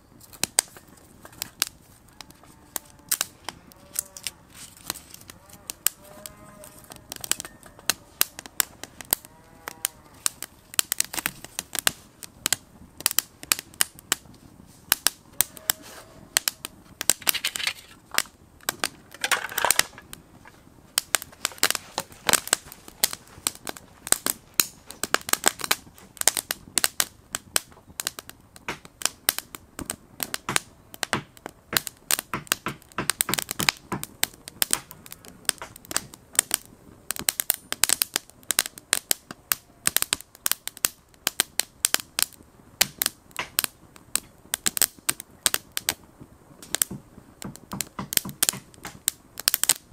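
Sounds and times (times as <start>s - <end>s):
kindling crackling in fire: 0.0s - 49.9s
sharp pops: 0.2s - 49.9s.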